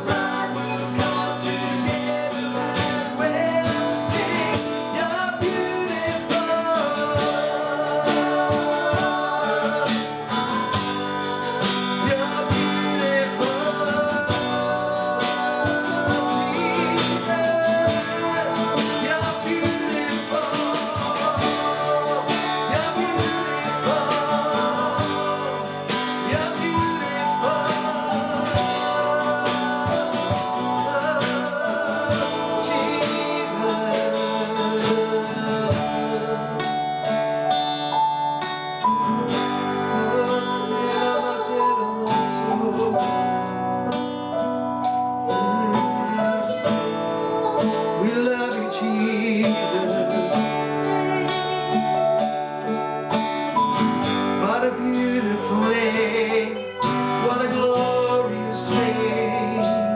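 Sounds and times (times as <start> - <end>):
acoustic guitar strumming: 0.0 - 59.9
person singing: 0.0 - 59.9.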